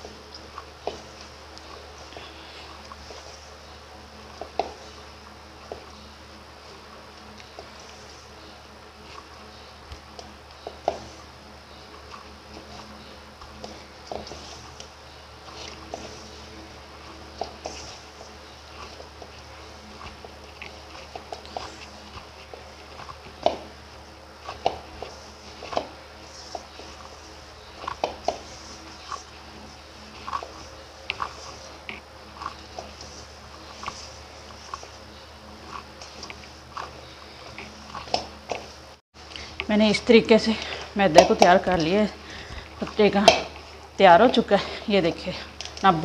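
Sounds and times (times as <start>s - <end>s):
dough squishing and slapping: 0.0s - 46.0s
steady low hum: 0.0s - 46.0s.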